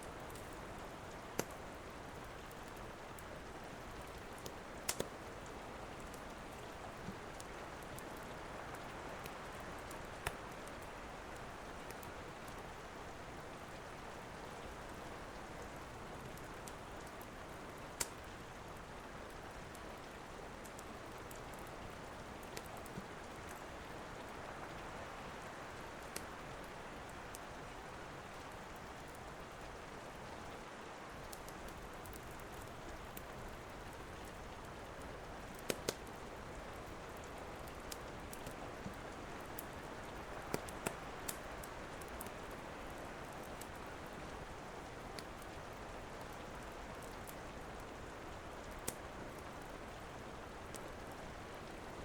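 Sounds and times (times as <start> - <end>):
wood fire crackling: 0.0 - 29.8, 31.1 - 52.0
steady rain hissing: 0.0 - 52.0.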